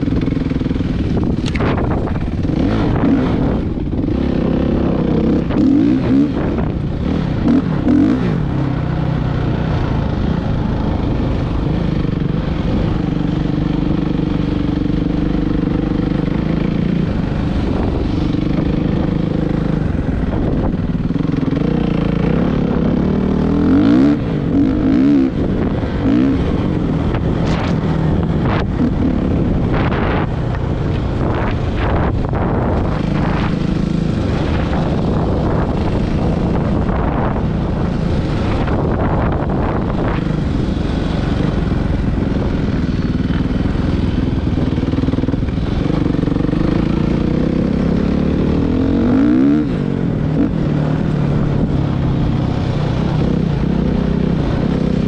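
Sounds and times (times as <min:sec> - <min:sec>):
dirt bike engine revving: 0:00.0 - 0:51.1.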